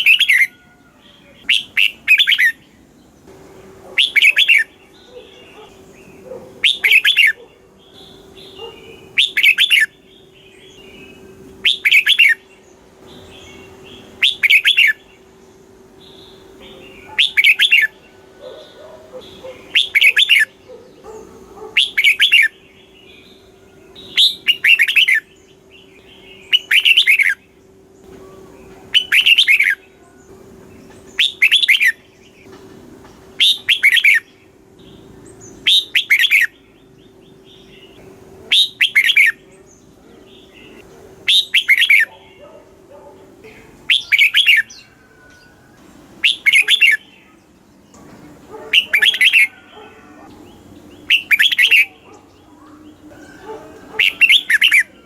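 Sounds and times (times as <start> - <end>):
bulbul singing: 0.0 - 32.6, 33.4 - 55.0
faint steady hum: 0.0 - 55.0.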